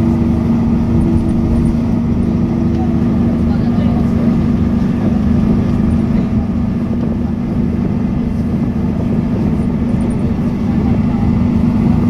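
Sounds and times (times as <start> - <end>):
bus engine and tyre rumble: 0.0 - 12.0.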